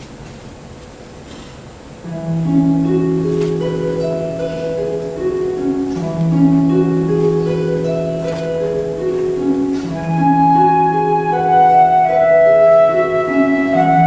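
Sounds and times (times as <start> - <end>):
harp playing broken chords: 2.1 - 14.0.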